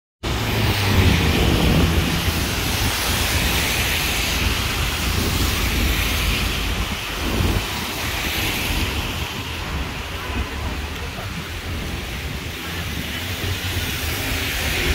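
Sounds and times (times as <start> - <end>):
car traffic: 0.2 - 14.9
wind buffeting microphone: 0.2 - 14.9
hiss of rain-wet street: 0.3 - 14.9.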